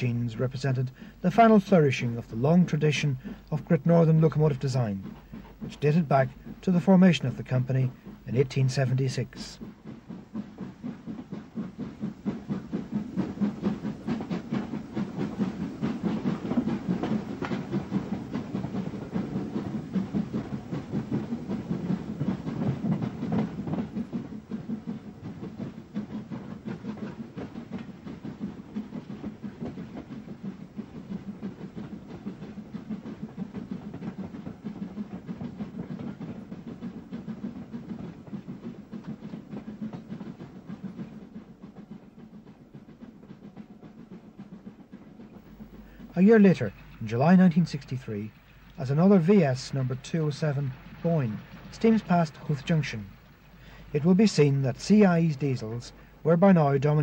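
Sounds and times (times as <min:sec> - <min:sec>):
steam locomotive exhaust beating: 0:00.0 - 0:57.0
train running noise: 0:00.0 - 0:57.0.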